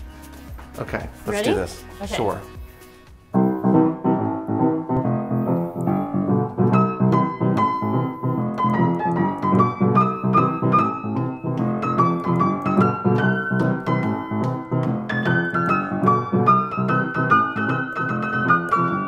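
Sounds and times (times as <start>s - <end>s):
higher piano melody: 0.0s - 19.0s
low piano chords: 0.0s - 19.0s.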